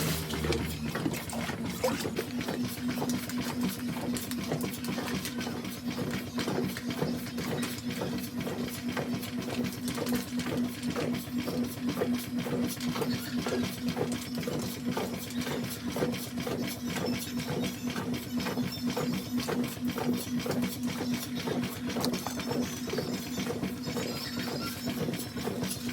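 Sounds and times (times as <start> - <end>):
washing machine running: 0.0 - 25.9.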